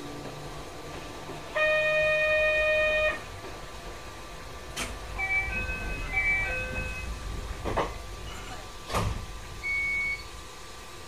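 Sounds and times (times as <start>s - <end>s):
train car running noise: 0.0s - 11.0s.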